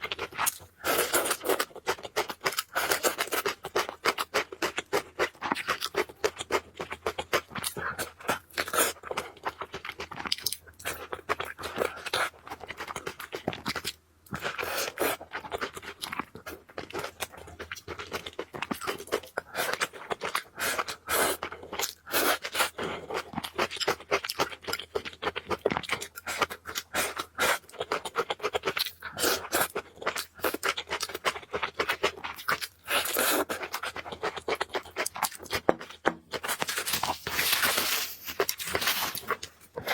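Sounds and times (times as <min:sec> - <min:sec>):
noodles being chewed: 0:00.0 - 0:39.9.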